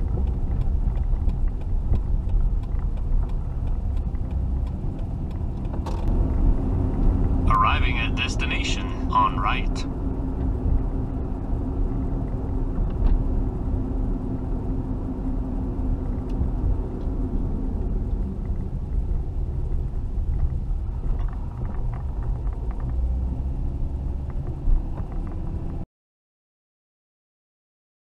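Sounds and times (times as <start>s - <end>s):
engine and road rumble: 0.0s - 25.9s.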